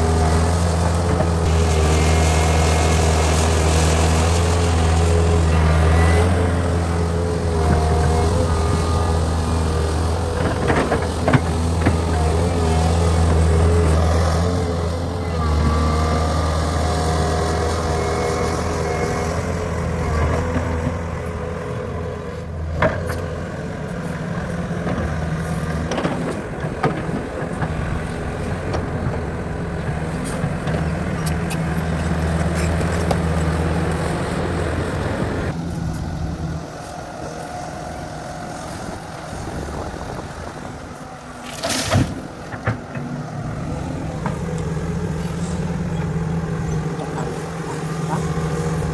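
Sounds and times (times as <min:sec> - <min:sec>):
diesel machinery engine drone: 0:00.0 - 0:48.9.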